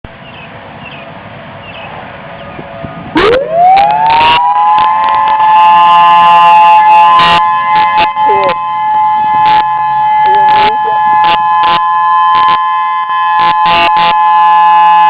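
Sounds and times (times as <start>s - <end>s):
distant siren: 1.9s - 15.0s
electronic warning siren two-tone: 2.9s - 15.0s.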